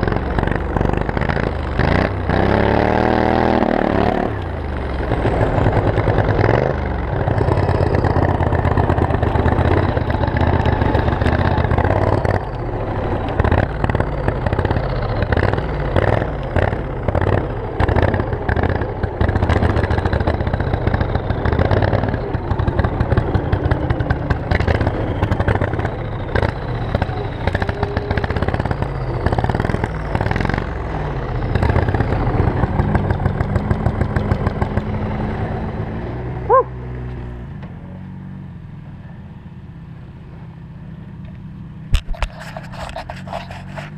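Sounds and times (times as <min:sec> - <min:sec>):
lawn mower engine running: 0:00.0 - 0:38.0, 0:40.1 - 0:43.9.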